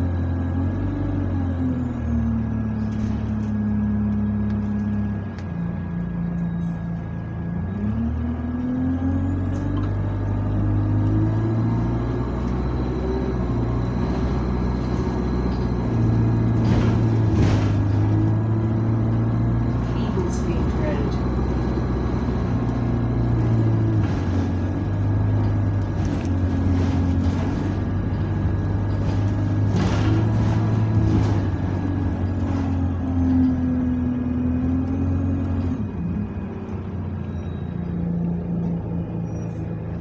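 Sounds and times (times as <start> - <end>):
bus engine: 0.0 - 40.0.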